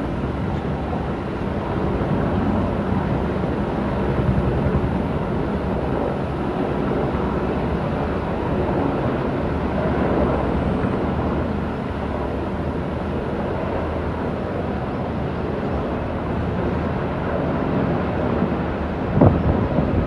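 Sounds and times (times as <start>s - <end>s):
helicopter rotors and engines rumbling: 0.0s - 20.0s.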